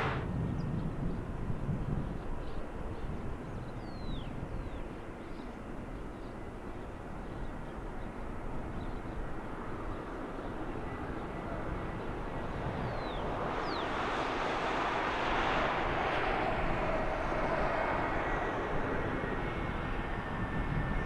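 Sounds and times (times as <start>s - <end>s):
distant jet engines rumbling: 0.0s - 3.7s, 6.9s - 21.0s.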